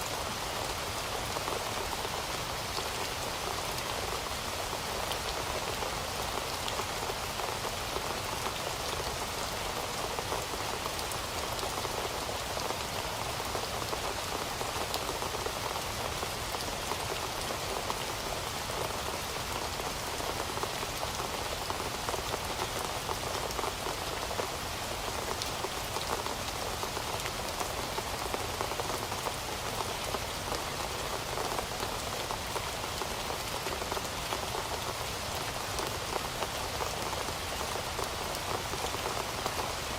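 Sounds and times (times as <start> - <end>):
heavy rain: 0.0 - 39.9
raindrops pattering on surface: 0.0 - 39.9.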